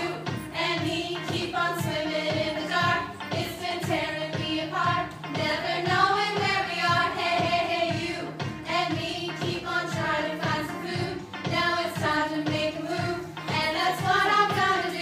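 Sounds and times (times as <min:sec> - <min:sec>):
singing over music with beat: 0:00.0 - 0:15.0.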